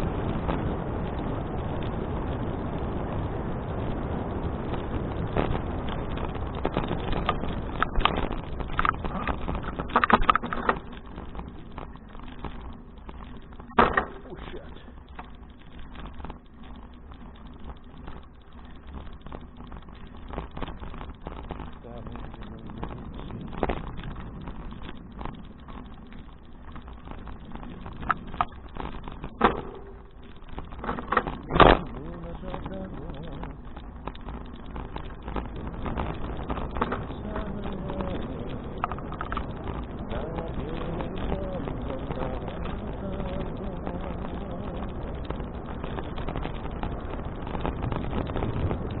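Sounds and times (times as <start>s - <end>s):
bicycle rattles and clicks: 0.0s - 49.0s
wind and road rumble: 0.0s - 49.0s.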